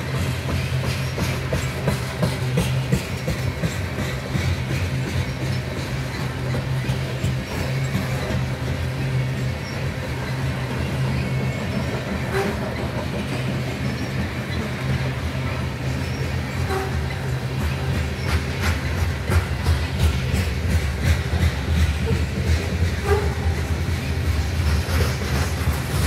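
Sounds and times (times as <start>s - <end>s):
freight train rolling past: 0.0s - 26.0s
wheels clicking over rail joints: 0.0s - 26.0s.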